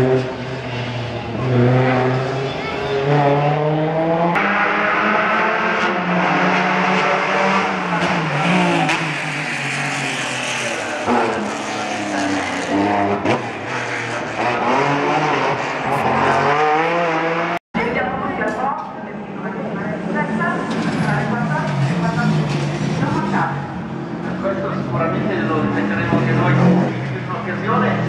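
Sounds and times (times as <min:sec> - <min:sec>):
rally car engines revving: 0:00.0 - 0:17.6, 0:19.5 - 0:28.0.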